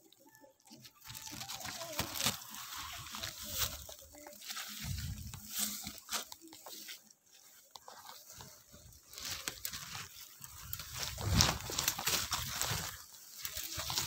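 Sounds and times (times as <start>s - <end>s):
leaves and twigs crunching: 0.0s - 14.0s
footsteps through dry grass: 0.8s - 14.0s.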